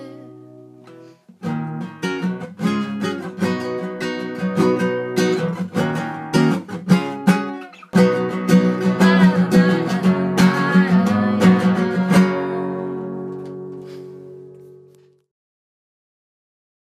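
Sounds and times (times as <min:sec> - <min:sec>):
strummed acoustic guitar: 0:00.0 - 0:15.2.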